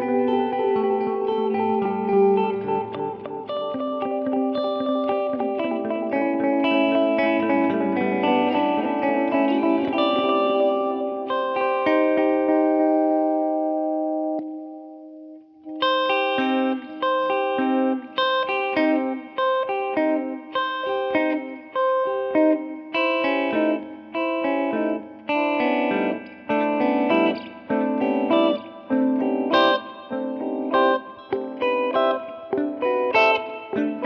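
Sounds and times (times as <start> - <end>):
electric guitar with delay: 0.0 - 34.0.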